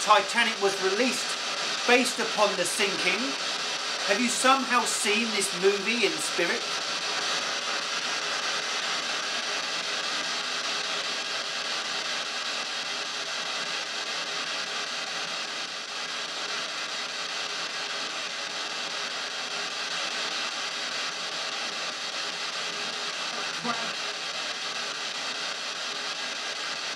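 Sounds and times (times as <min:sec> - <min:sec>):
radio static hiss: 0:00.0 - 0:26.9.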